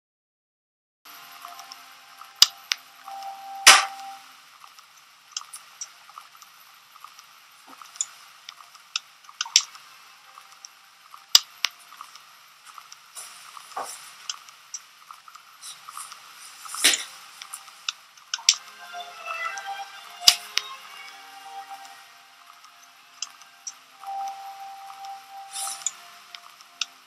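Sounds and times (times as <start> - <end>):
faint steady hiss: 1.1 - 27.0.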